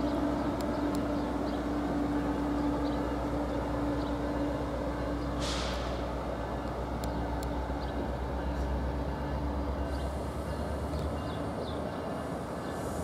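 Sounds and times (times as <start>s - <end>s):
diesel locomotive engine rumble: 0.0s - 13.0s
train wheel noise: 0.0s - 13.0s.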